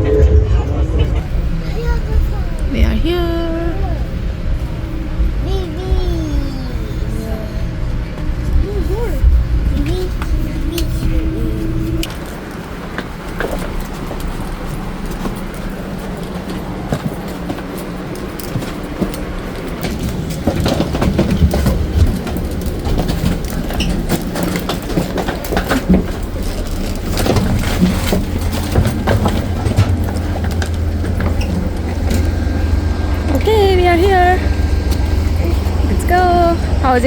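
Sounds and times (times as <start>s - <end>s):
passenger train rumbling: 0.0s - 37.0s
train cars clicking and clanking: 0.0s - 37.0s.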